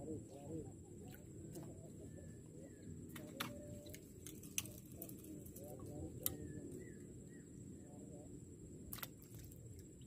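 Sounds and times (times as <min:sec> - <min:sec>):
faint bird calls: 0:00.0 - 0:09.3.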